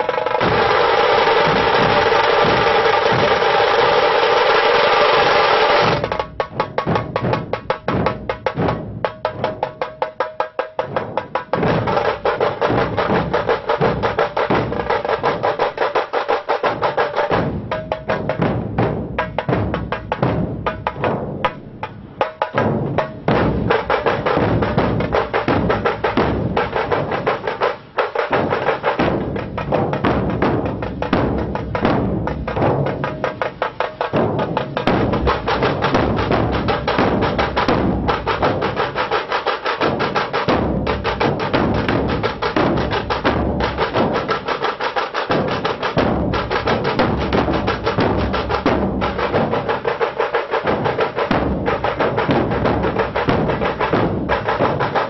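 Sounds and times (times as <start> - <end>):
barrel drums beaten in unison: 0.0 - 55.0
fast drum strokes: 0.0 - 55.0.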